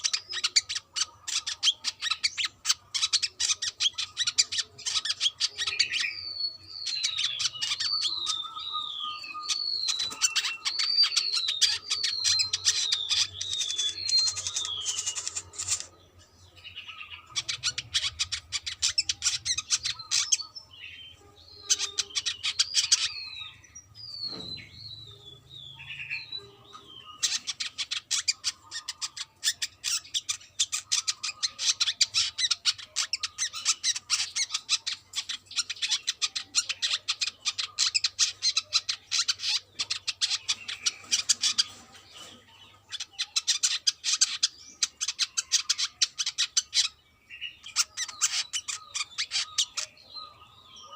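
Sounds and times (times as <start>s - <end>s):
bird chattering song: 0.0s - 50.9s.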